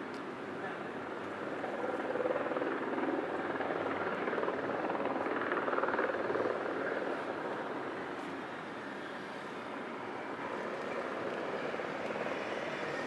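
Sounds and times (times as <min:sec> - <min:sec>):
helicopter engine noise: 0:00.0 - 0:13.0
helicopter rotor beating: 0:00.8 - 0:13.0.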